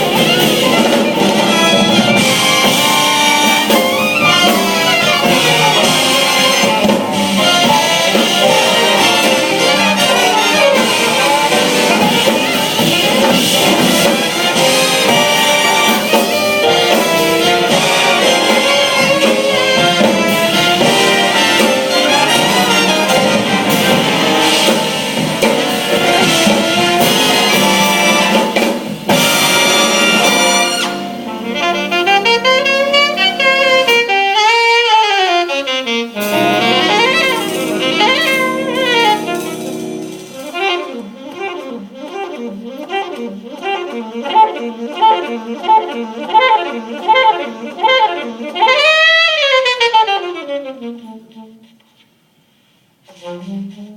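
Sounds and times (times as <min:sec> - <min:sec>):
saxophone solo: 0:00.0 - 0:52.0
jazz band playing: 0:00.0 - 0:53.9.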